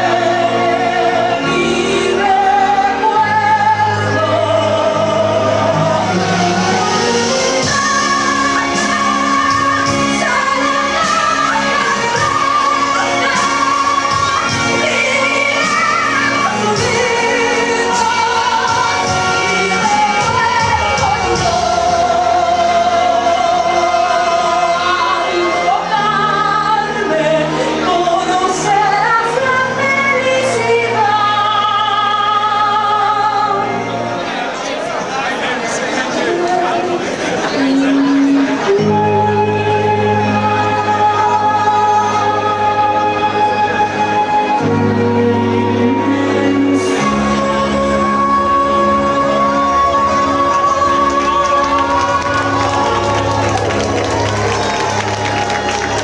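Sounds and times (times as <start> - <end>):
woman singing with vibrato: 0.0 - 34.2, 36.0 - 56.0
backing music: 0.0 - 56.0.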